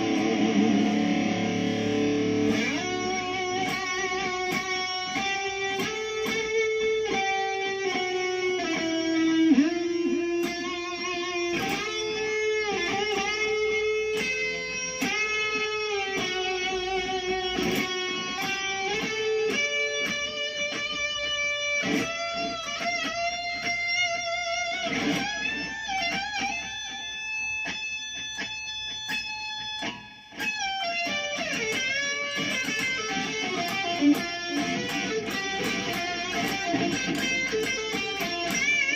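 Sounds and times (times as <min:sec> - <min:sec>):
electric guitar lead with bends: 0:00.0 - 0:38.9.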